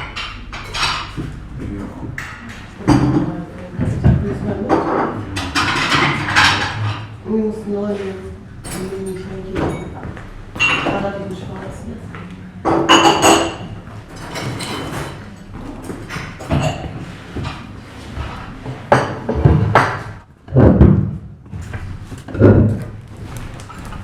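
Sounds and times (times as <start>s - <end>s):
tableware clattering: 0.0s - 7.2s, 8.0s - 11.7s, 12.6s - 24.0s.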